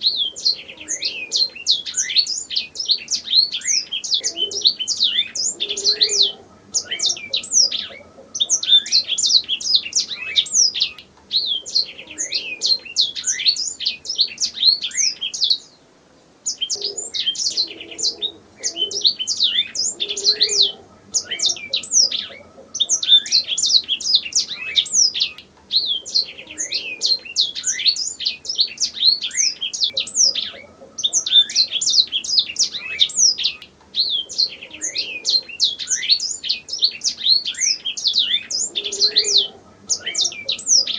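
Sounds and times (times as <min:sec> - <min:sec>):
canary singing trills: 0:00.0 - 0:15.8, 0:16.4 - 0:40.9.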